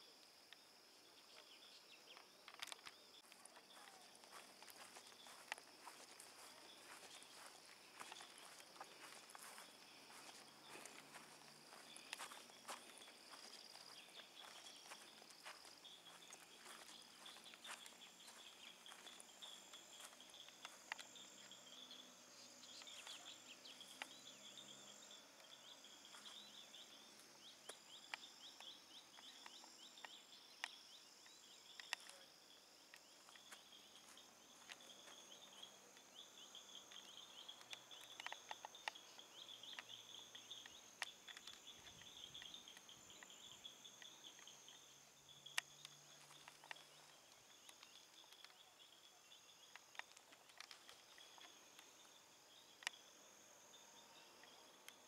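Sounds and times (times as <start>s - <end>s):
insects chirping in high trills: 0.0s - 55.0s.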